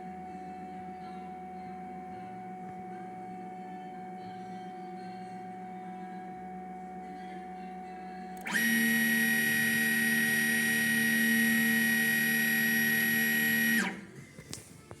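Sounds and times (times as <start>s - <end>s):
machine motor whine: 0.0s - 14.5s.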